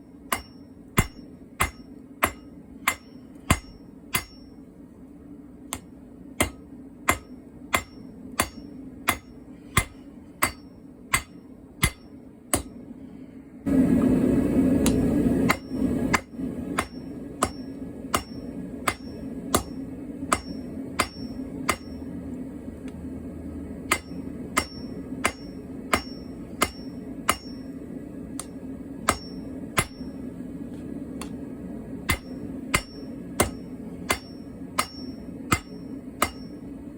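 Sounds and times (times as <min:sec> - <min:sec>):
hammer striking steel on anvil: 0:00.0 - 0:04.6, 0:05.7 - 0:12.8, 0:14.8 - 0:22.1, 0:23.8 - 0:27.8, 0:28.4 - 0:30.3, 0:32.1 - 0:36.7.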